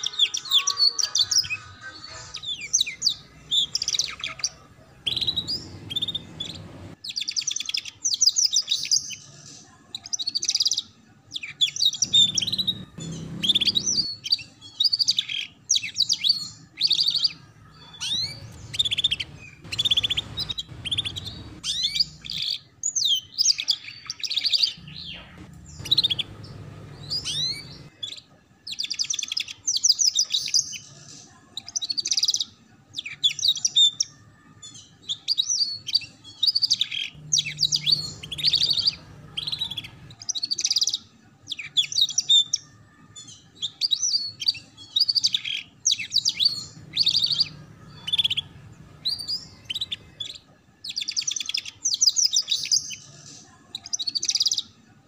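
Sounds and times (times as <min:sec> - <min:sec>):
canary singing trills: 0:00.0 - 0:54.8.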